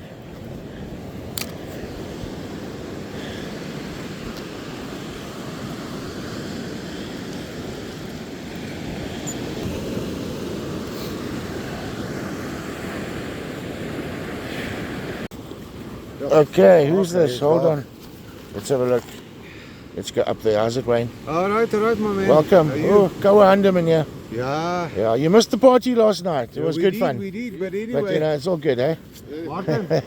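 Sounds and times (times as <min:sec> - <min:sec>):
surf rushing: 0:00.0 - 0:30.0
wind: 0:00.0 - 0:30.0.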